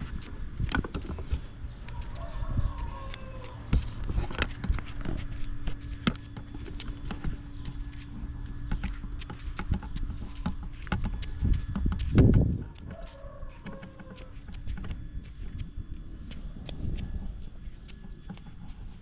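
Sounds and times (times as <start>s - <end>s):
footsteps on concrete: 0.0s - 19.0s.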